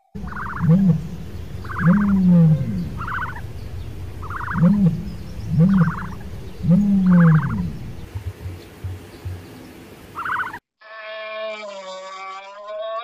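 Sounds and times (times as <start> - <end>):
animal calling: 0.0 - 10.6.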